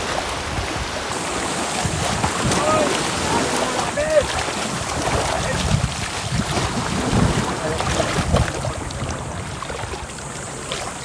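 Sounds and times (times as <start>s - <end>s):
people wading through water: 0.0s - 11.0s
wind buffeting microphone: 0.0s - 11.0s.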